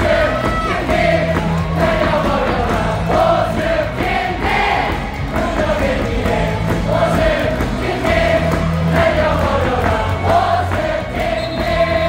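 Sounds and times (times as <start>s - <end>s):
crowd singing: 0.0s - 12.0s
loud amplified music: 0.0s - 12.0s.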